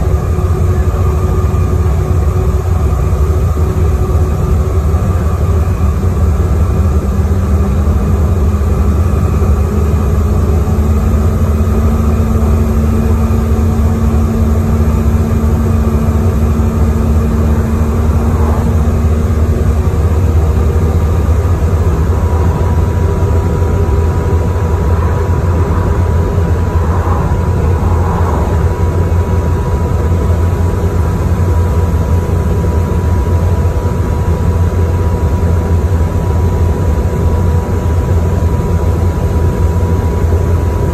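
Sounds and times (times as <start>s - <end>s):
bus engine droning: 0.0s - 40.9s
faint steady whine: 0.0s - 40.9s.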